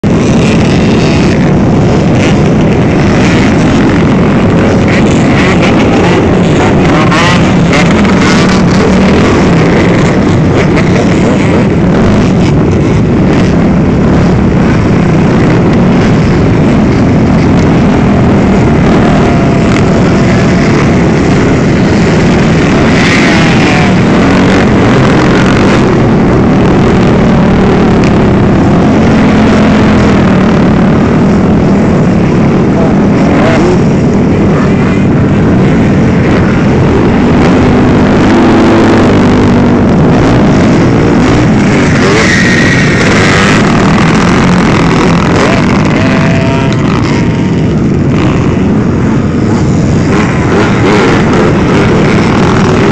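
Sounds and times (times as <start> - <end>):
dirt bikes revving and passing: 0.0 - 52.9.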